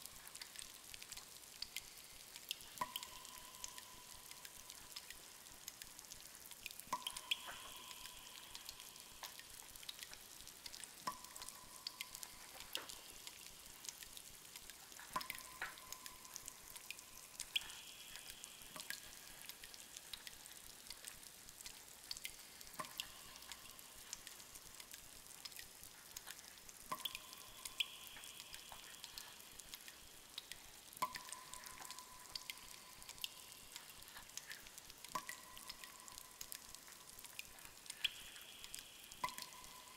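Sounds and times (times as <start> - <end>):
faint steady hiss: 0.0 - 39.9
water dripping in cave: 0.0 - 39.9.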